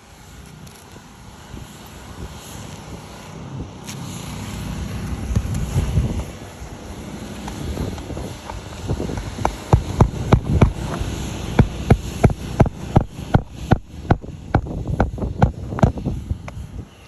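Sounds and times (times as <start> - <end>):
rough rustling: 0.0 - 14.6.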